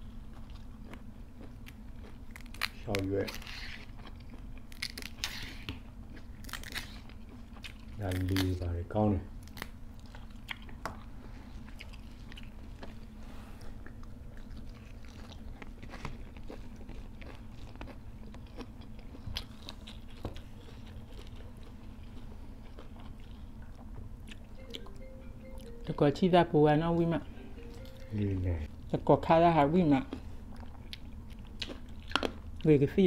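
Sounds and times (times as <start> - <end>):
chewing raw vegetables: 0.0 - 8.8, 9.4 - 24.9, 29.9 - 32.7
low steady hum: 0.0 - 33.0.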